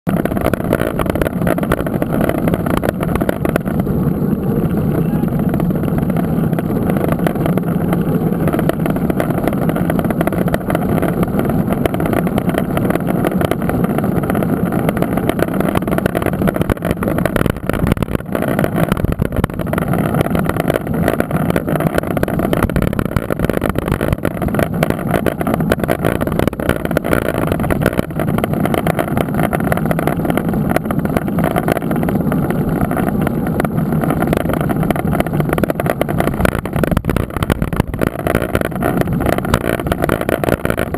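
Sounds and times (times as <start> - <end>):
bike tyre and trail noise: 0.0 - 40.9
wind buffeting microphone: 0.1 - 40.9.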